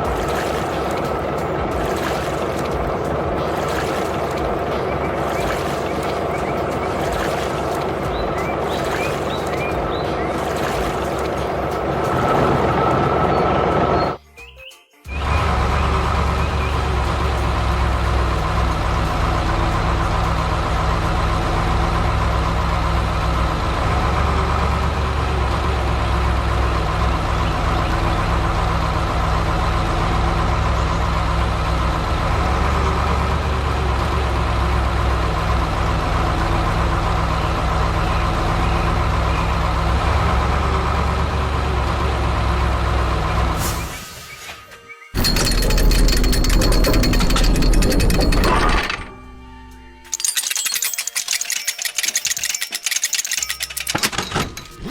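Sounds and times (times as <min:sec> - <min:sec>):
heavy truck engine running: 0:00.0 - 0:14.2, 0:15.1 - 0:44.2, 0:45.2 - 0:54.9.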